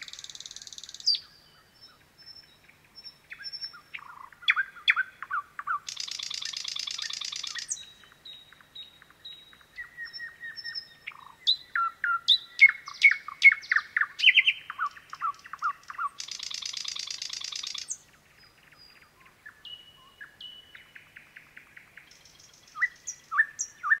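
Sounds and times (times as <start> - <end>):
nightingale singing: 0.0 - 24.0.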